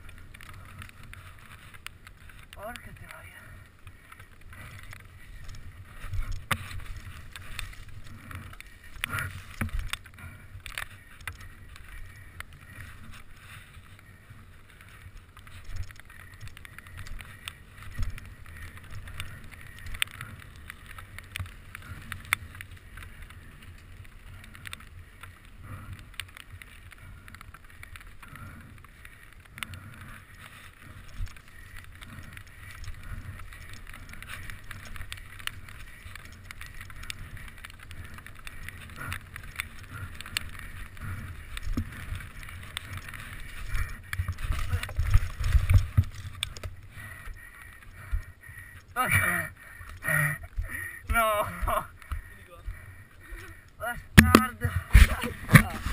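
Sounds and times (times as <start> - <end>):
bike rattling over bumps: 0.0 - 55.9.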